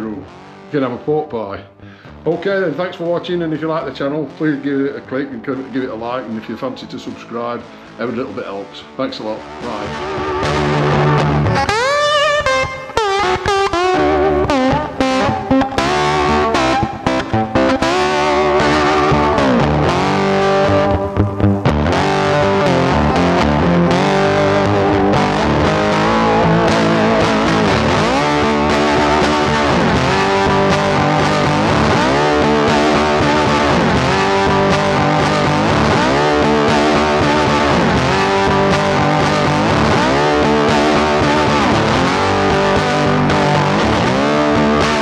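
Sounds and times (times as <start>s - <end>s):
guitar background music: 0.0s - 45.0s.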